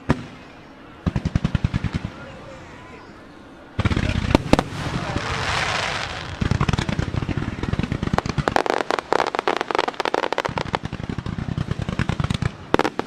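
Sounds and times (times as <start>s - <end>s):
fireworks bursting in rapid fire: 0.1s - 2.4s, 3.8s - 13.0s.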